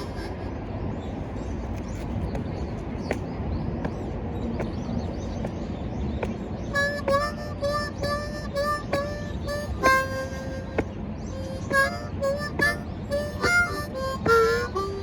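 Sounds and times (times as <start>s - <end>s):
bird chirps: 1.0s - 15.0s.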